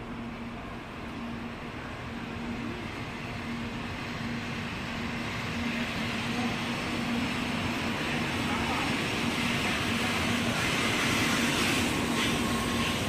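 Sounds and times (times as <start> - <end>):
train running and wheel noise: 0.0 - 13.0.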